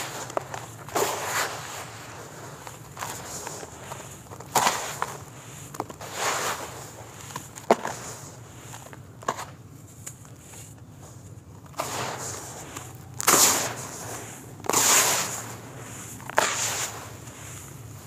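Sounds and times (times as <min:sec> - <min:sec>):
falling crunching soil: 0:00.0 - 0:18.0
hands crumbling dry dirt: 0:00.0 - 0:18.0.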